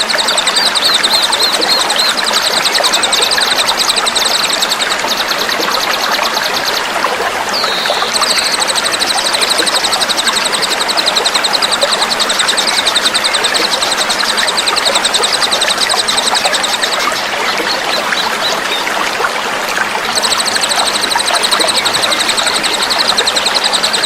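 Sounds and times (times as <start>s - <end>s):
songbird rattling trill: 0.0s - 6.9s, 7.5s - 18.6s, 20.1s - 24.0s
running water babbling: 0.0s - 24.0s.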